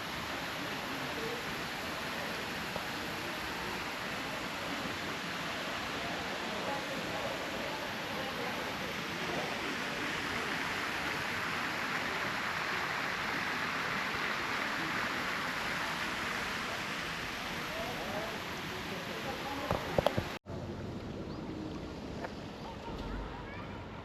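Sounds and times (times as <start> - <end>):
fast-flowing river water: 0.0 - 20.4.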